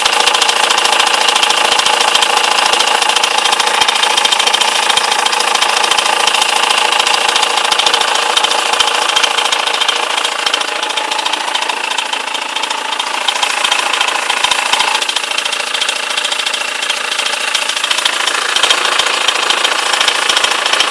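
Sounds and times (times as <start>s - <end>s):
diesel engine running: 0.0s - 20.9s
fast ticking clatter: 0.0s - 20.9s.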